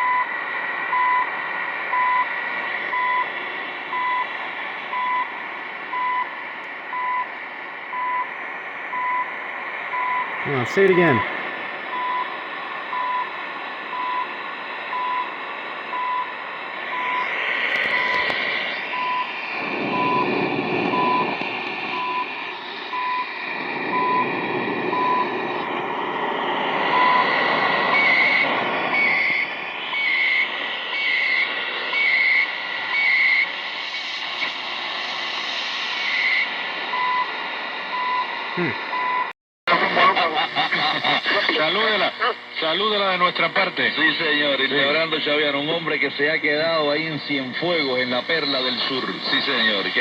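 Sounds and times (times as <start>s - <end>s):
radio static hiss: 0.0s - 39.0s, 39.7s - 50.0s
radio timing pips: 0.0s - 50.0s.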